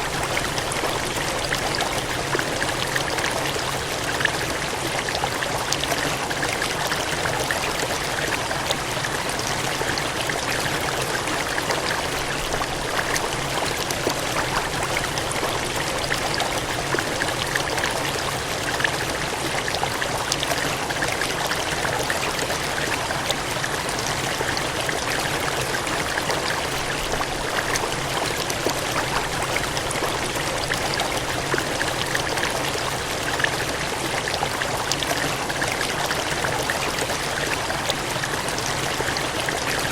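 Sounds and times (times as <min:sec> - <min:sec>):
water gushing and cascading: 0:00.0 - 0:39.9.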